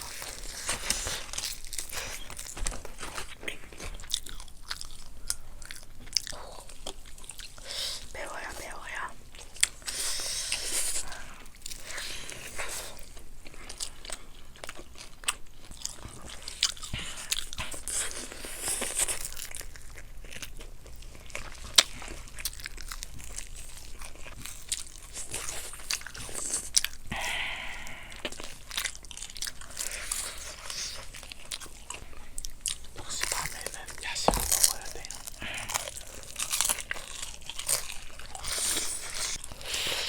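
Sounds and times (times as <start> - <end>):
crunching bites and chewing: 0.0 - 8.6, 9.3 - 40.0.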